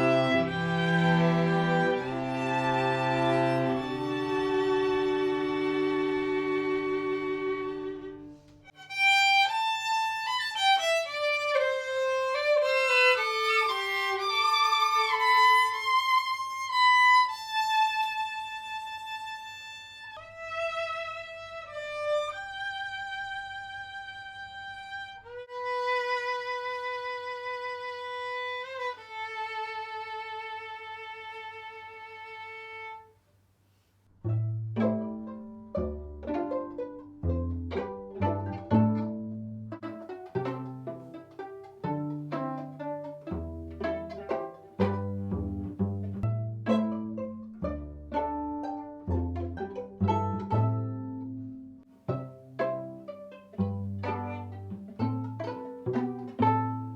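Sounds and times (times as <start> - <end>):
low pizzicato notes: 0.0 - 33.1, 34.1 - 56.9
violin playing: 0.0 - 33.2, 34.2 - 56.9.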